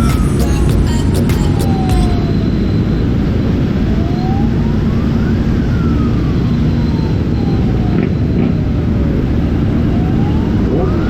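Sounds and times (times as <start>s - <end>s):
faint siren-like tone: 0.0s - 11.0s.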